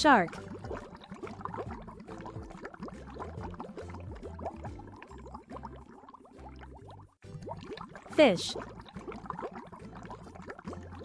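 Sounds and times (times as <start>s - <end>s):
soft background music: 0.0s - 11.0s
underwater bubble pops: 0.0s - 11.0s.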